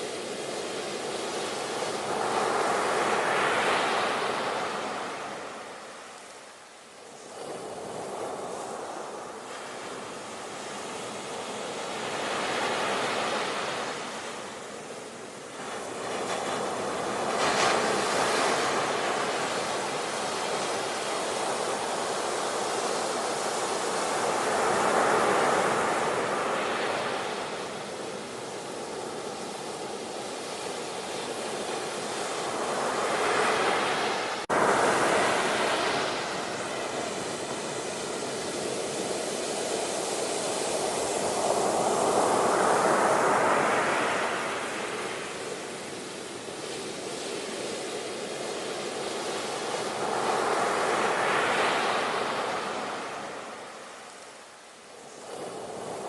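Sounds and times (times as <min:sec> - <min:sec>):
ocean waves breaking: 0:07.2 - 0:54.2.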